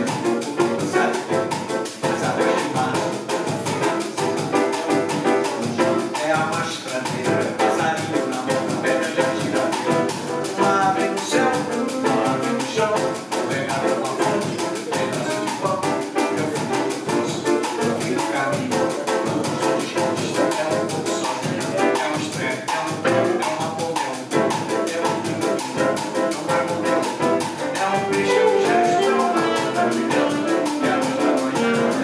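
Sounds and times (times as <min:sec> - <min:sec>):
bossa nova grand piano: 0:00.0 - 0:32.0
drum kit rhythm: 0:00.0 - 0:32.0.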